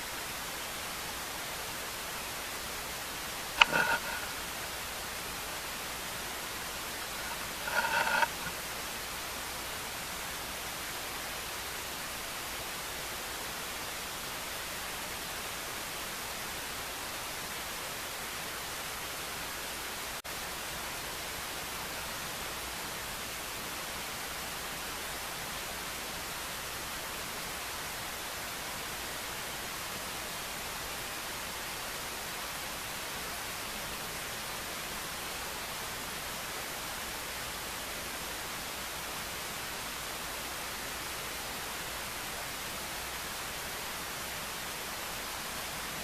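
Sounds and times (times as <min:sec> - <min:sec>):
steady hiss: 0:00.0 - 0:46.0.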